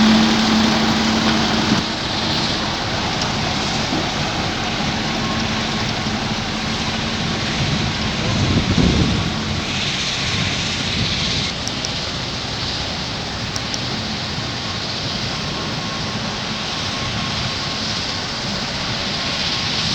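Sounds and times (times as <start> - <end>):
tractor diesel engine drone: 0.0 - 19.9.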